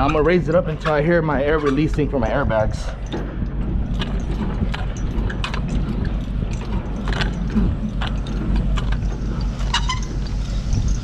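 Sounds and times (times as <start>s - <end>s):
crank and gearbox clicking: 0.0s - 11.0s.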